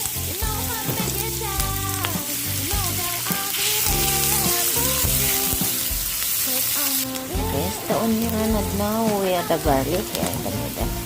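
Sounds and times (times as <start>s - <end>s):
background music: 0.0s - 11.0s
onion sizzling in oil: 0.0s - 11.0s.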